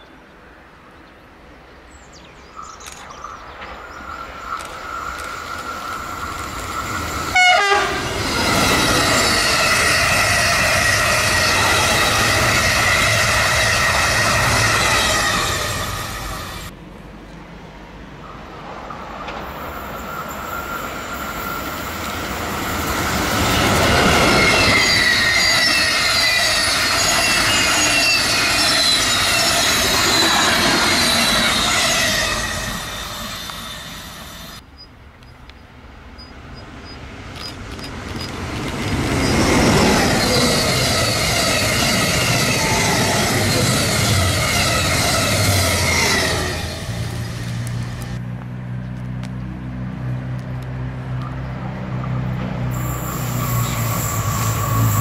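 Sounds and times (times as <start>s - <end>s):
train passing on rails: 0.0s - 55.0s.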